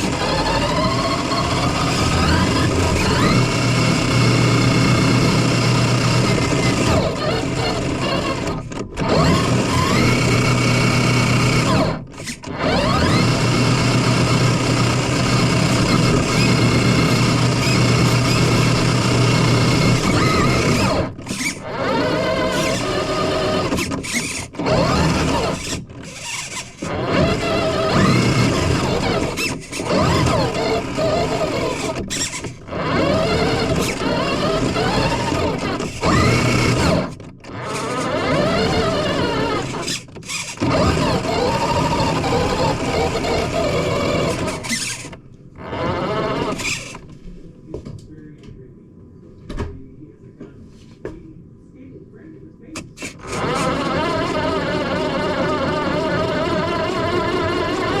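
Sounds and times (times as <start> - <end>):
drone motors whining: 0.0 - 47.1, 52.8 - 58.0.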